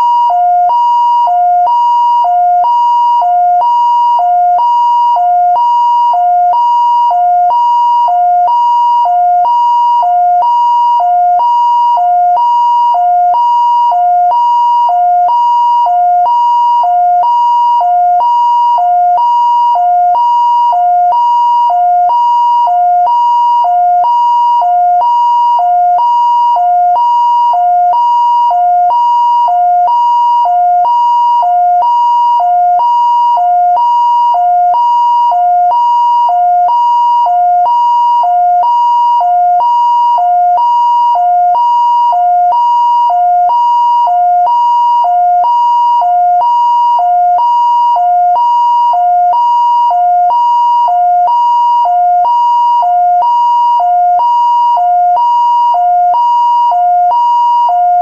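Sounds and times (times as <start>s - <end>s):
two-tone fire engine siren: 0.0s - 58.0s.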